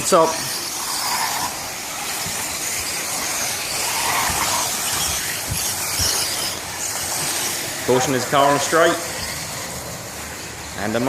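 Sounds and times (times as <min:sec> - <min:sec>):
rc car motors hissing: 0:00.0 - 0:11.0.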